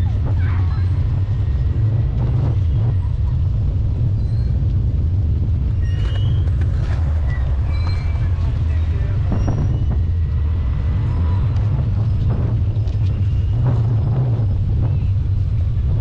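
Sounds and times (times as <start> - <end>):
tyres rolling on pavement: 0.0 - 16.0
wind rumble on microphone: 0.0 - 16.0.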